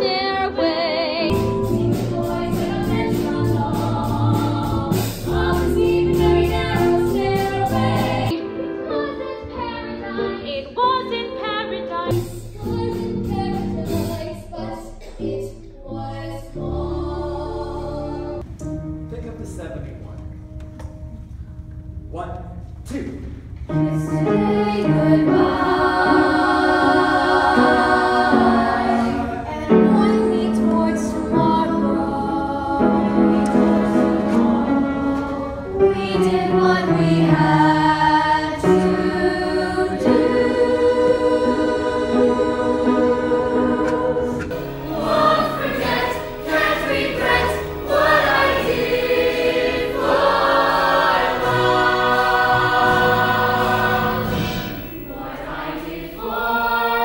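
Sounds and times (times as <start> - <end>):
group of voices singing: 0.0 - 10.7, 12.2 - 18.4, 23.7 - 57.0.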